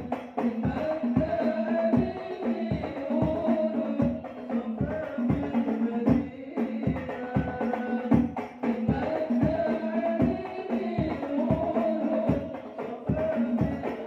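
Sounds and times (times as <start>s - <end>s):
frame drums beating: 0.0s - 14.0s
men singing into microphones: 0.0s - 14.0s.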